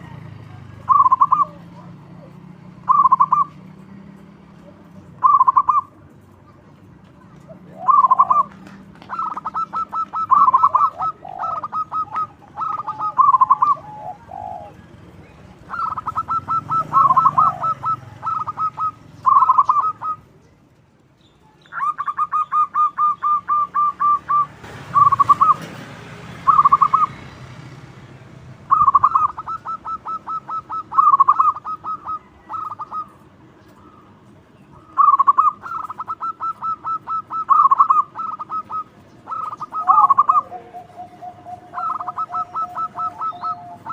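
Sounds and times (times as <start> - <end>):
dove cooing: 0.0 - 3.8, 4.5 - 6.0, 7.4 - 20.4, 21.5 - 25.8, 26.4 - 27.2, 28.6 - 43.9.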